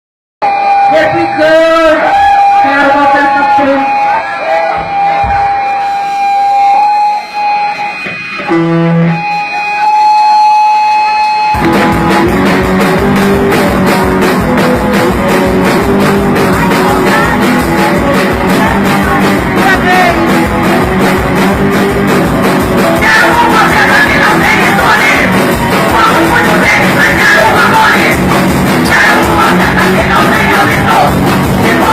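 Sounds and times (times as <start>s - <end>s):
held guitar tones: 0.4s - 31.9s
punk rock band playing: 0.4s - 31.9s.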